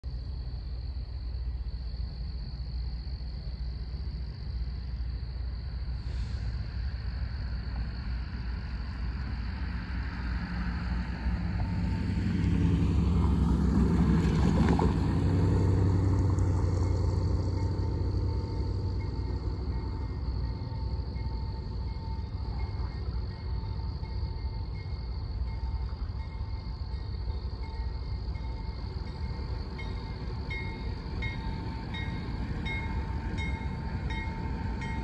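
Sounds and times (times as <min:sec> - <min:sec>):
locomotive engine rumble: 0:00.0 - 0:35.0.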